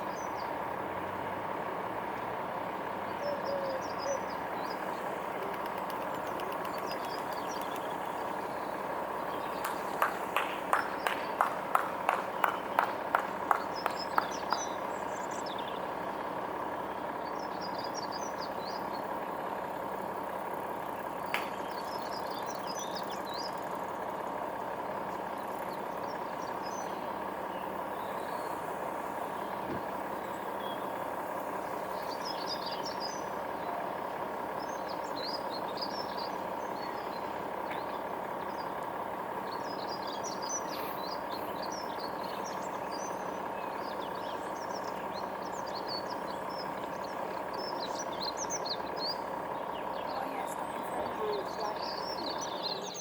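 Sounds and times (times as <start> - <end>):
small birds chirping: 0.0 - 0.8, 2.4 - 53.0
engine idling: 0.0 - 53.0.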